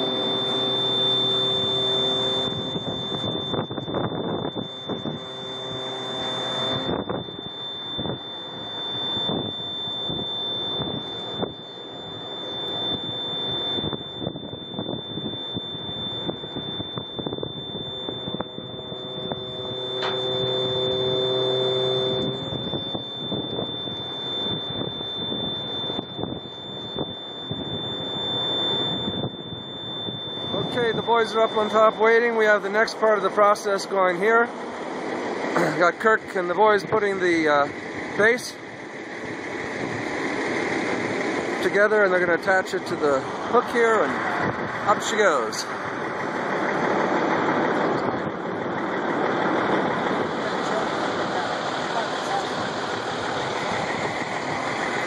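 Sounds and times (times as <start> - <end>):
pitched hydraulic whine: 0.0 - 55.0
steady high tone: 0.0 - 55.0
truck engine rumbling under load: 0.0 - 55.0.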